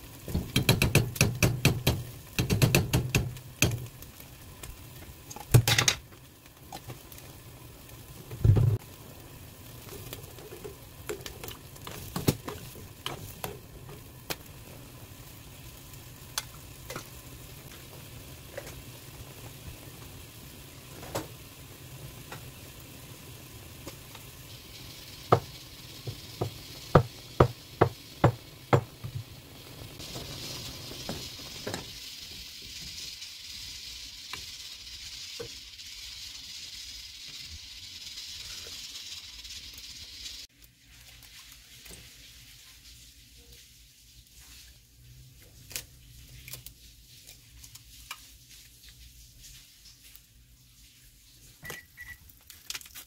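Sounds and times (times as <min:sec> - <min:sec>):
broth bubbling in a pan: 0:00.0 - 0:53.0.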